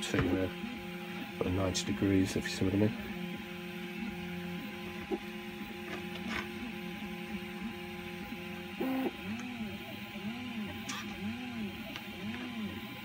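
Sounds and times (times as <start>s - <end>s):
servo motors buzzing whine: 0.0s - 13.0s.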